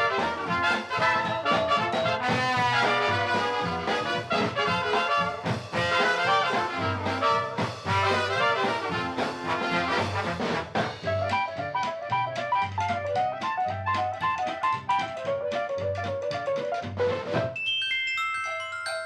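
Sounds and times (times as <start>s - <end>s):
ragtime brass band playing: 0.0s - 17.6s.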